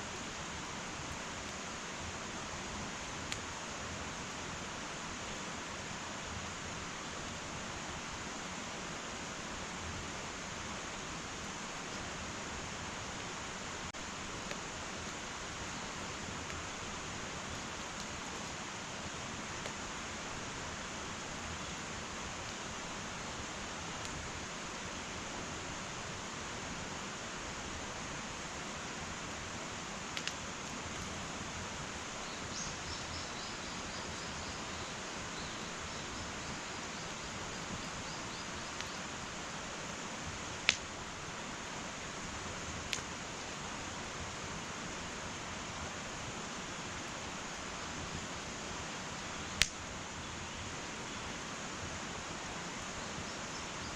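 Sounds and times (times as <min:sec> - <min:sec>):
wood fire hissing and crackling: 0:00.0 - 0:53.9.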